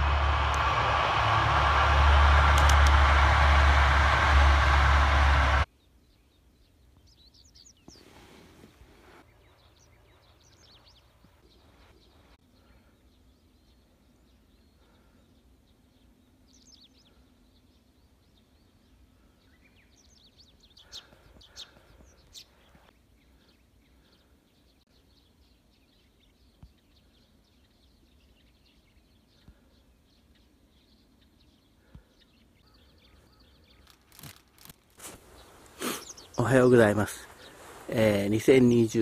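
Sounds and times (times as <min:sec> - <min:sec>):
faint bird calls: 0:07.4 - 0:39.0.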